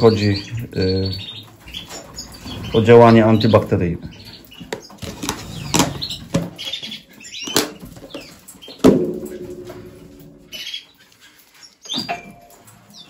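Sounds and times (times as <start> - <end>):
canaries chirping: 0.0 - 13.0.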